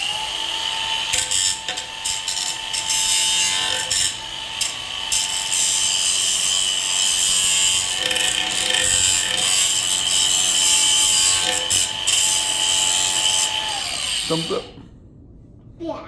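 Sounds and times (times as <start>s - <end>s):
electric grinder grinding metal: 0.0s - 14.7s.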